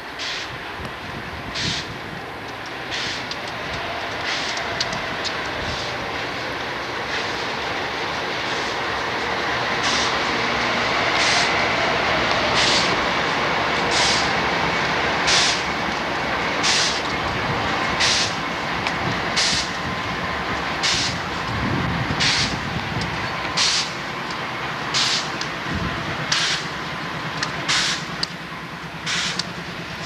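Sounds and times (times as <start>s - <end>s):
freight train rumbling: 0.0s - 30.0s
wheels clacking on rail joints: 0.0s - 30.0s.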